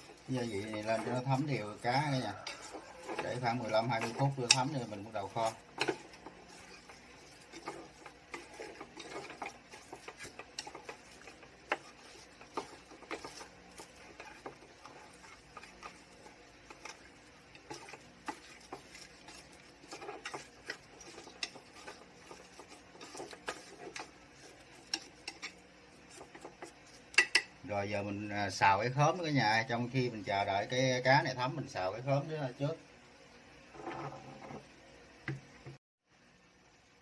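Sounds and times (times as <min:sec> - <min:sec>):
fish being stirred in a bowl: 0:00.0 - 0:31.8.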